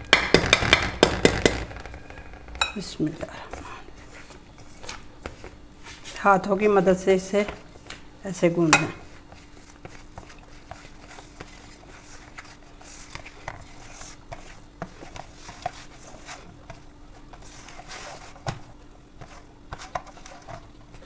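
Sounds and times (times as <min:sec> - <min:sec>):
faint steady hum: 0:00.0 - 0:21.0
hands kneading dough: 0:00.1 - 0:21.0.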